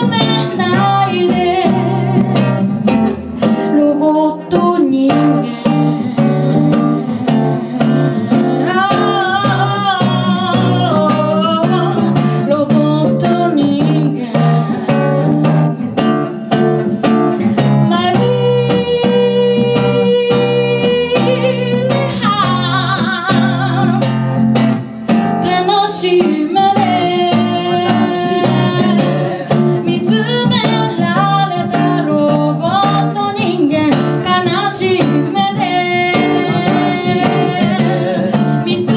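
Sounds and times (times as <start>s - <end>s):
acoustic guitar: 0.0s - 38.9s
woman singing into microphone: 0.0s - 38.9s.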